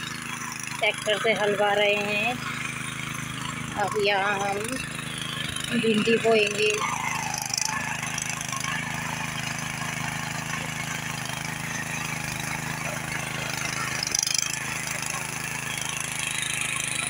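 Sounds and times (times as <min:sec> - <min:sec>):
tiller engine running: 0:00.0 - 0:17.0.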